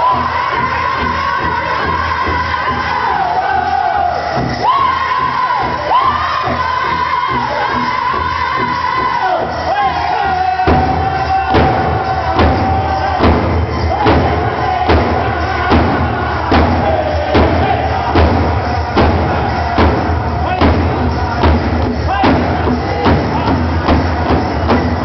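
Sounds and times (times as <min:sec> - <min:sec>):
group singing high-pitched song: 0:00.0 - 0:25.0
heavy drum beats: 0:00.0 - 0:25.0.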